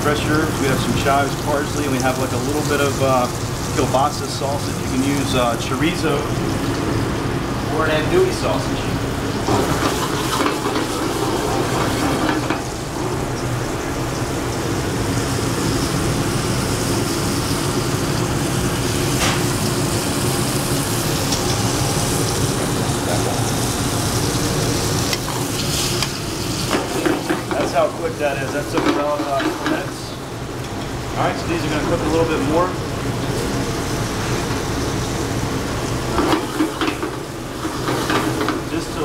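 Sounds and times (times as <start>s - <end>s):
chicken sizzling in a pan: 0.0s - 39.0s.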